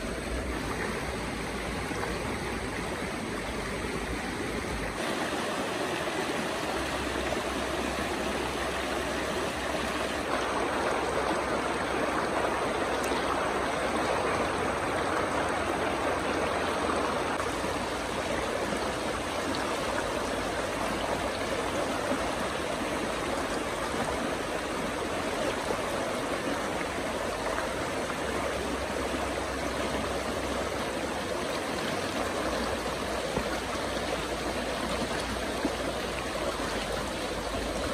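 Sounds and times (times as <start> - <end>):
stream rushing over rocks: 0.0 - 37.9.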